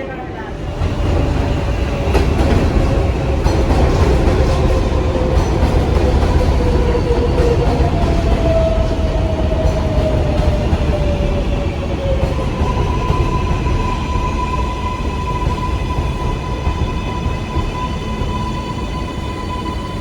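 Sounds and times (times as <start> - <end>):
subway wheels rumbling on rail: 0.0 - 20.0.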